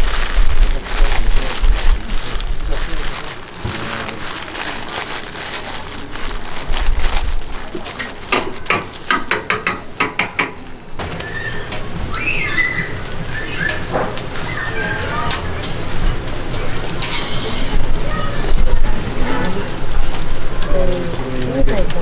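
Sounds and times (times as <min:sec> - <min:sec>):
plastic bag crinkling: 0:00.0 - 0:10.0, 0:10.6 - 0:22.0.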